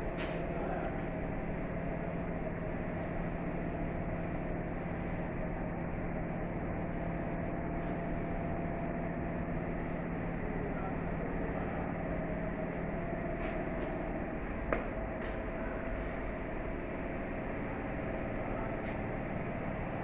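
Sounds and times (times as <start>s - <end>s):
boiler-room machinery humming: 0.0s - 20.0s.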